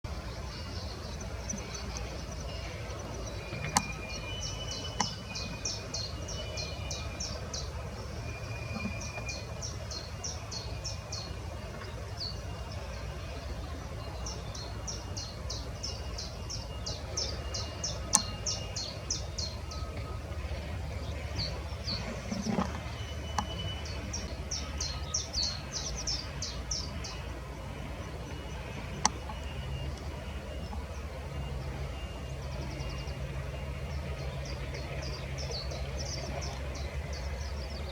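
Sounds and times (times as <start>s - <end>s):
low outdoor rumble: 0.0s - 37.9s.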